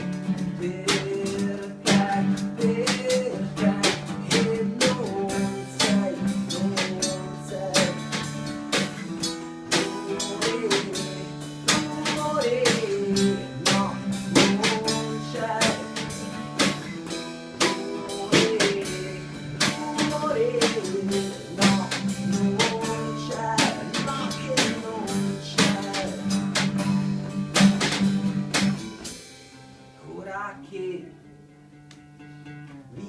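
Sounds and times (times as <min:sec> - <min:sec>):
band playing live: 0:00.0 - 0:30.0
drum kit beat: 0:00.0 - 0:30.0.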